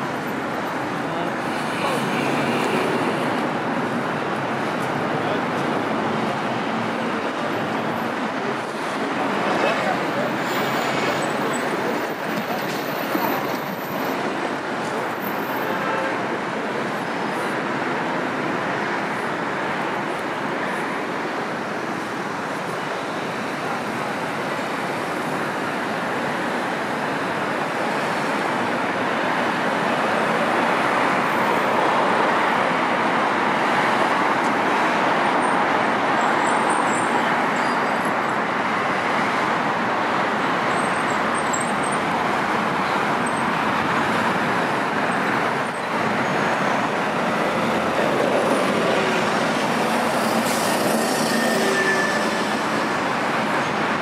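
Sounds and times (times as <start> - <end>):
cars and buses passing: 0.0 - 54.0.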